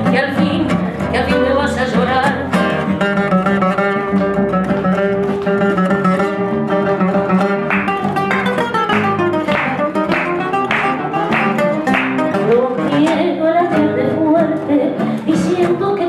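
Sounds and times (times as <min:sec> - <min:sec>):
acoustic guitars playing: 0:00.0 - 0:16.0
strummed guitar accents: 0:00.0 - 0:16.0.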